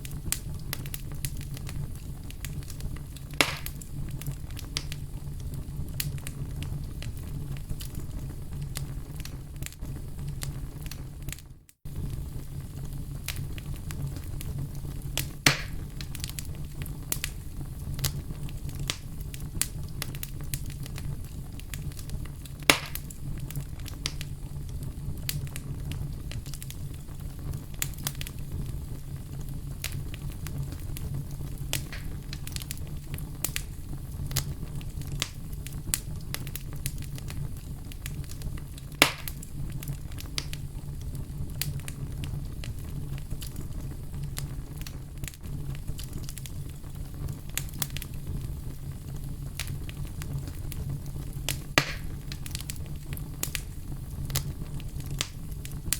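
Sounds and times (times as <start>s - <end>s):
low rumble of flame: 0.0s - 55.9s
sharp pops of fire: 0.0s - 55.9s
wood fire crackling: 0.0s - 55.9s.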